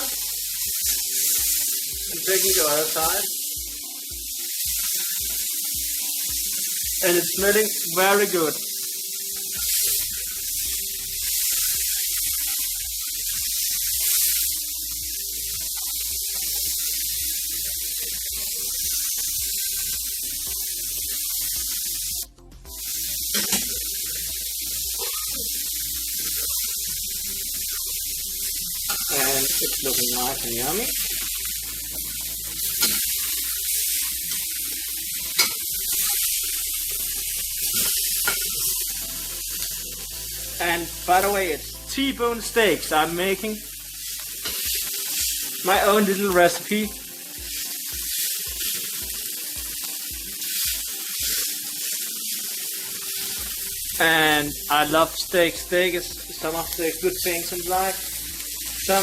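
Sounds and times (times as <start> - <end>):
steaks sizzling in a frying pan: 0.0 - 59.0.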